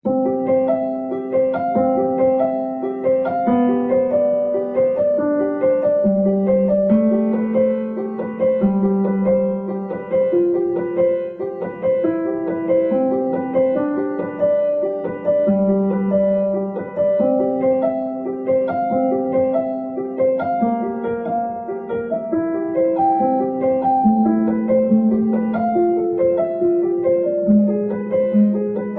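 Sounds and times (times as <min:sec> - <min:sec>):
gentle piano music: 0:00.0 - 0:28.9.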